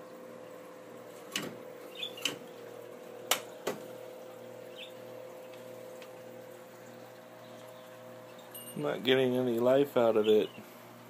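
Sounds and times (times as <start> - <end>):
computer fan hum: 0.0 - 11.0.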